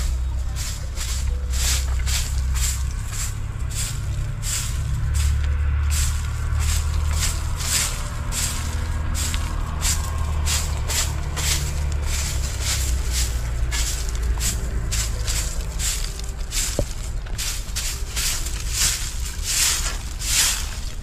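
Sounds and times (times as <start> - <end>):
broom sweeping leaves and grit: 0.0 - 21.0
low rumble: 0.0 - 21.0.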